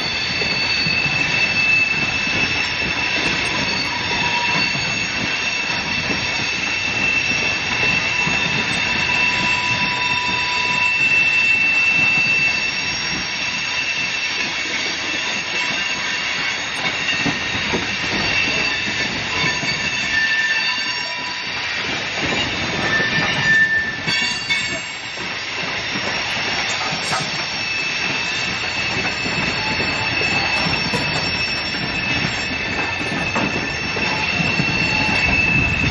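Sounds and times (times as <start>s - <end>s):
high-pitched wheel squeal: 0.0s - 21.6s, 22.7s - 25.2s, 25.9s - 35.9s
train wheels rumbling on rail: 0.0s - 35.9s.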